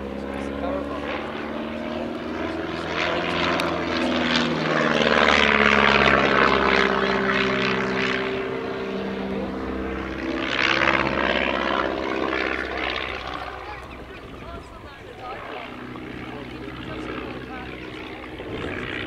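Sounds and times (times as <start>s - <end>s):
biplane engine and propeller: 0.0s - 19.0s.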